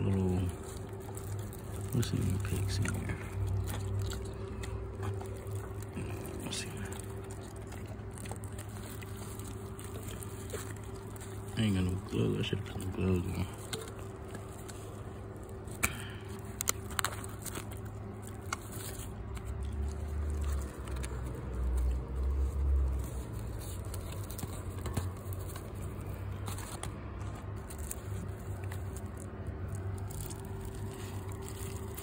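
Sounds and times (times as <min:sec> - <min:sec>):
cling wrap crackling: 0:00.0 - 0:32.0
faint steady hum: 0:00.0 - 0:32.0.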